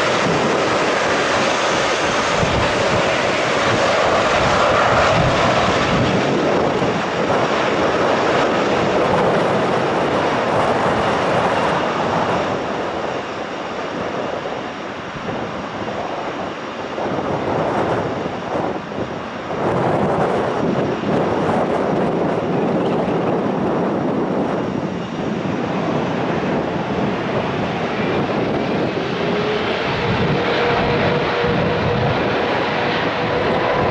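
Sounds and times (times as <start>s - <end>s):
aircraft engine rushing: 0.0s - 33.9s.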